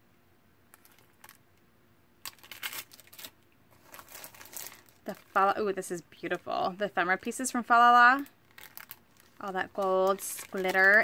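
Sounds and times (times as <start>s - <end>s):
plastic bags crinkling and rustling: 0.7s - 1.4s, 2.2s - 11.0s.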